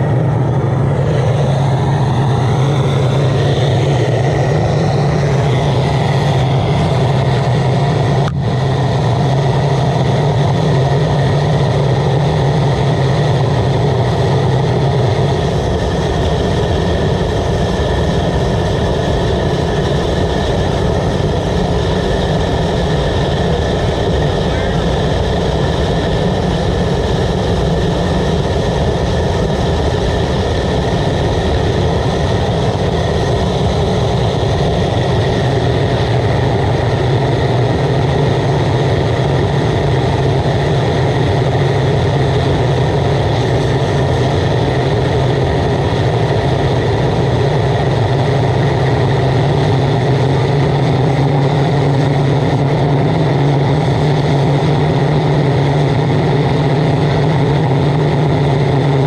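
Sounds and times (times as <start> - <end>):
burner flame roaring: 0.0 - 59.0
low hum: 0.0 - 59.0.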